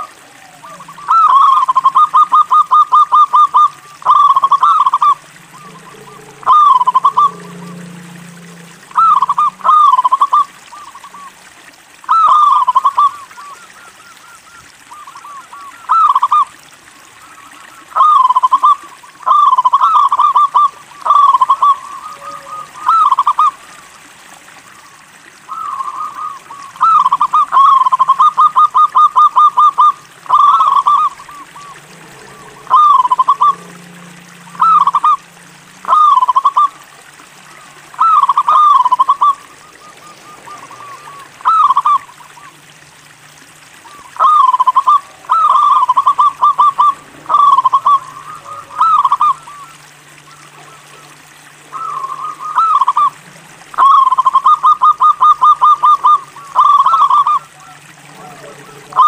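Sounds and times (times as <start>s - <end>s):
dove cooing: 0.0s - 11.5s, 12.1s - 42.8s, 43.7s - 59.0s.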